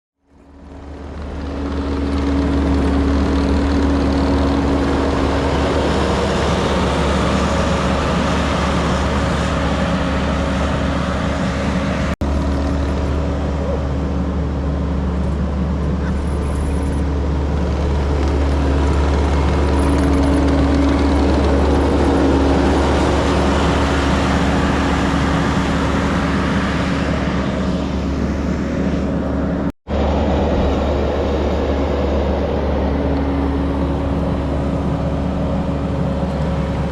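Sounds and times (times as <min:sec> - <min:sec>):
road noise: 0:00.2 - 0:36.9
vehicle engine low rumble: 0:00.2 - 0:36.9.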